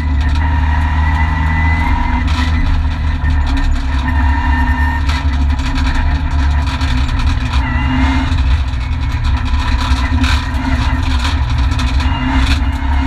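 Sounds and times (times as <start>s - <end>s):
car engine running hard: 0.0s - 13.0s
tyre and road noise: 0.0s - 13.0s.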